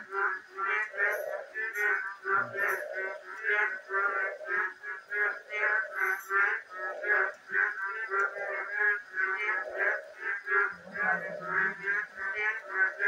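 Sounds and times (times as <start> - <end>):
frog croaking: 0.0 - 13.0.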